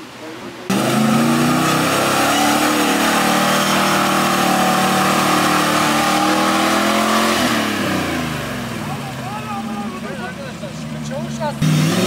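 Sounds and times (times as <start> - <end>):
engine at high revs: 0.7 - 9.2, 9.8 - 12.0.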